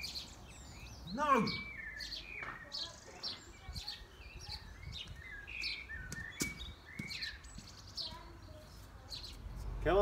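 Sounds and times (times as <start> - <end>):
birds chirping and singing: 0.0 - 10.0.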